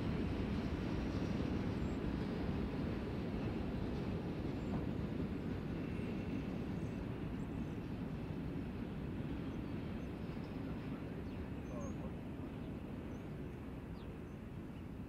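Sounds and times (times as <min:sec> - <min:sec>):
train cars rumbling on rails: 0:00.0 - 0:15.0.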